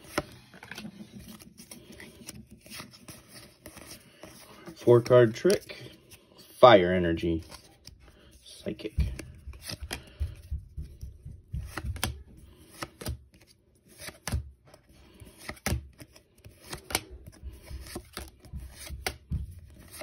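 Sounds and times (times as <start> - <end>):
cards being flipped: 0.0 - 11.0, 11.6 - 20.0.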